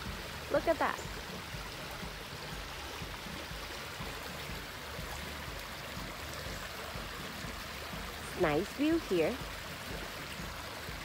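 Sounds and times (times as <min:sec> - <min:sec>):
creek running water: 0:00.0 - 0:11.0.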